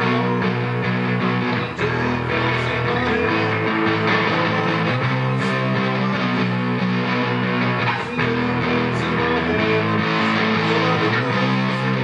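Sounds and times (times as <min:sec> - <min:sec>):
guitar strumming music: 0:00.0 - 0:12.0.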